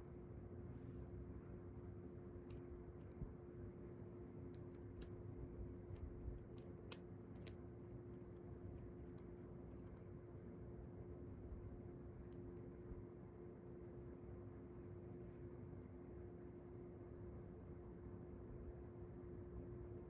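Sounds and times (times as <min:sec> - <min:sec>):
steady hum: 0:00.0 - 0:16.7.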